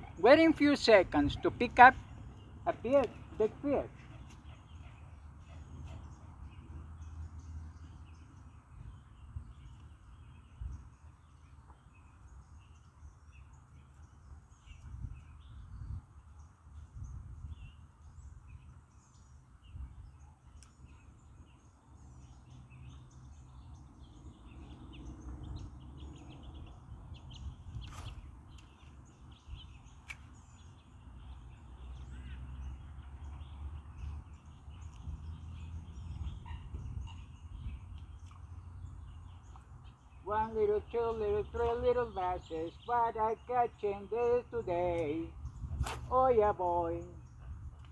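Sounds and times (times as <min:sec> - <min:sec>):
birds calling and chirping: 0:00.0 - 0:47.9.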